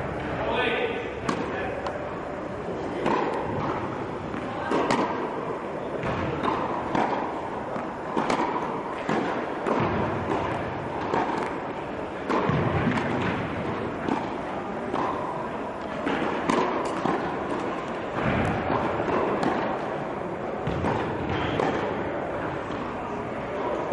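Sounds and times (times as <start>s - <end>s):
hall background noise: 0.0s - 23.9s
tennis balls struck and bouncing: 1.2s - 23.9s.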